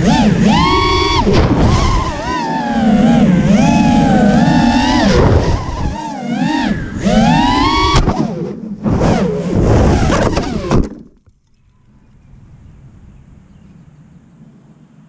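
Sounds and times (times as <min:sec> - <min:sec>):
drone motors whining: 0:00.0 - 0:14.8.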